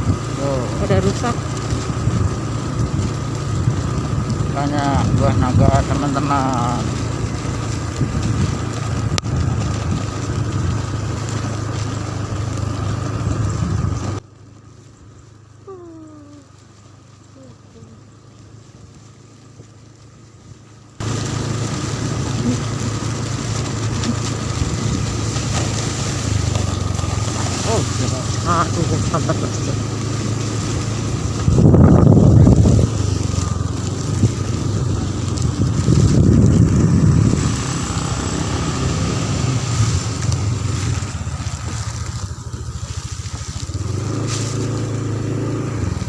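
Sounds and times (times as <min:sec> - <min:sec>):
road and wind noise: 0:00.0 - 0:46.0
vehicle engine running: 0:00.0 - 0:46.0.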